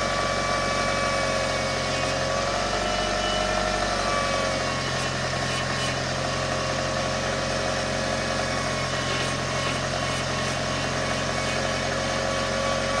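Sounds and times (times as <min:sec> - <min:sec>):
power steering pump whine: 0:00.0 - 0:13.0.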